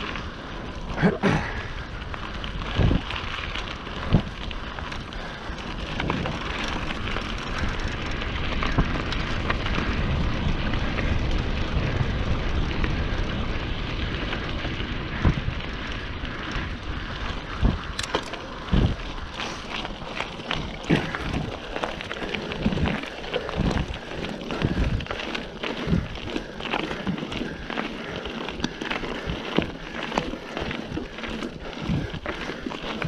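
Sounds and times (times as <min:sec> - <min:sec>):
tyre and wind noise: 0:00.0 - 0:33.0.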